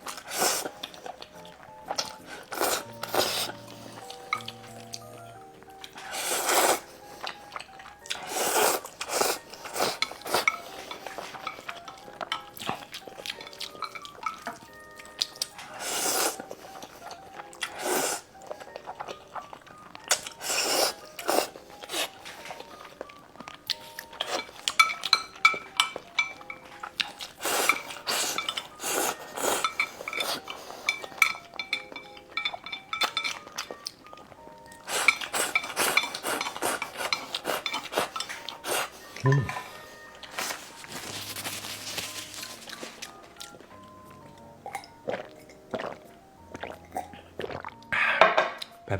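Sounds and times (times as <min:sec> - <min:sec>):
utensils clinking on bowls: 0:00.0 - 0:45.7
soft background melody: 0:00.0 - 0:48.9.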